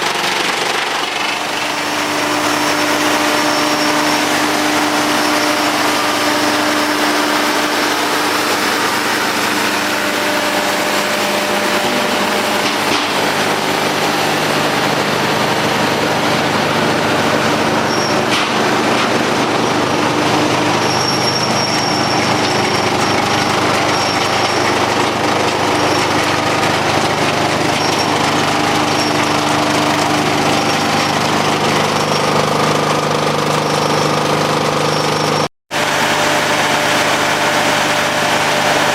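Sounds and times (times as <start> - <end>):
wood chipper and tractor engine: 0.0 - 38.9.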